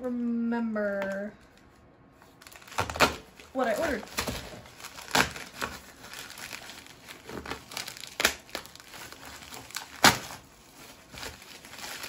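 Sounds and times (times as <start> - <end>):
packaging crinkling and tearing: 1.4 - 12.0.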